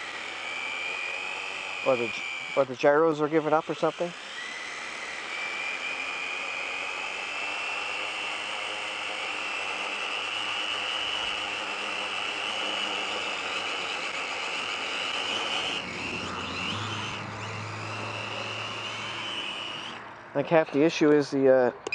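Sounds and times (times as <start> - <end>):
drone motors whining: 0.0 - 21.9.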